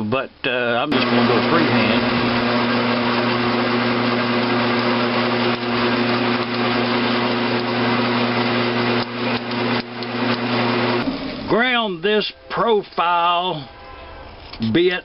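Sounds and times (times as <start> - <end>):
lathe motor and gearbox hum: 0.9 - 13.9.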